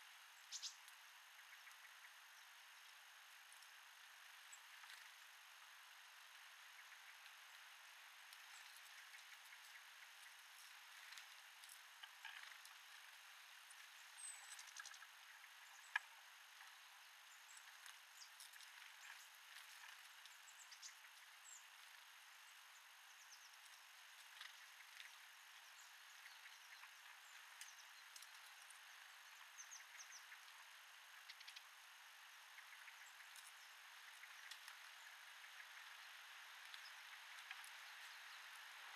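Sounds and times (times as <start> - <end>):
small birds chirping: 0.0 - 38.9
steady hiss: 0.0 - 38.9.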